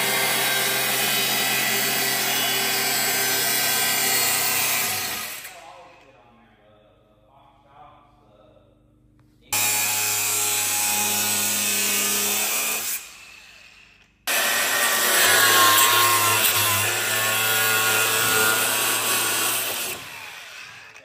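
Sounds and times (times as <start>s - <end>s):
power tool grinding: 0.0s - 5.6s, 9.6s - 21.0s.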